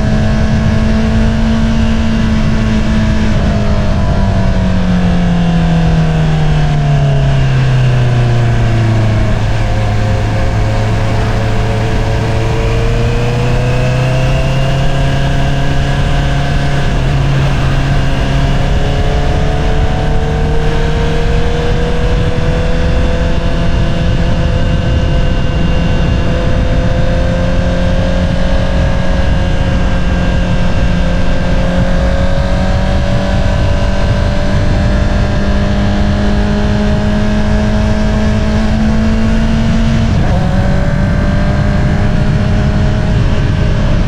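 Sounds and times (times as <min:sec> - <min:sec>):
motorcycle engine at light throttle: 0:00.0 - 0:44.0.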